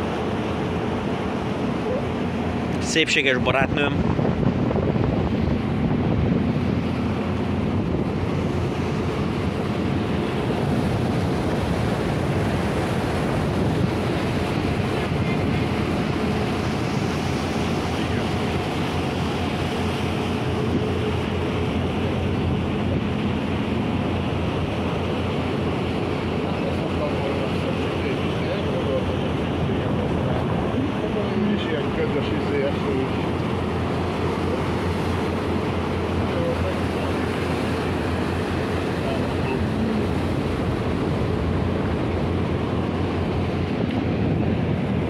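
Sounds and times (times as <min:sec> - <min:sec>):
low boat engine hum: 0:00.0 - 0:45.0
water washing along hull: 0:00.0 - 0:45.0
wind rushing over microphone: 0:00.0 - 0:45.0.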